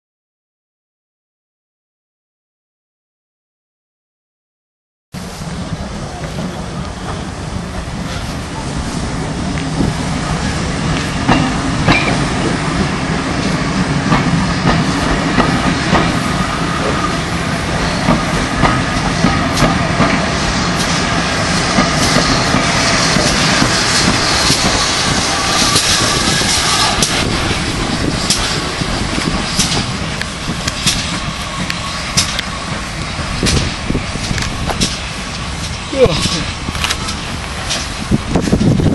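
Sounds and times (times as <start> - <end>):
train rumble: 5.2 - 38.9
train wheels clicking over rail joints: 5.7 - 38.9.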